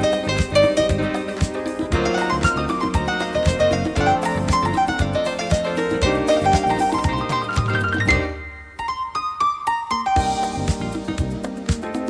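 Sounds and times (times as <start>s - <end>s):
smooth r and b music: 0.0s - 12.0s.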